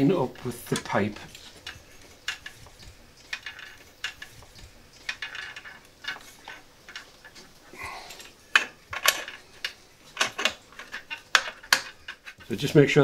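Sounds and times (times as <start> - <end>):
metal pipes clinking: 0.0 - 13.0
metal pipe scraping: 0.2 - 12.8.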